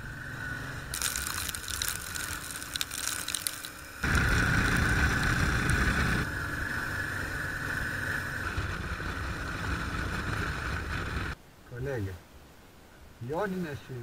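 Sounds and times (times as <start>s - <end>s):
motorcycle engine: 0.0s - 11.4s.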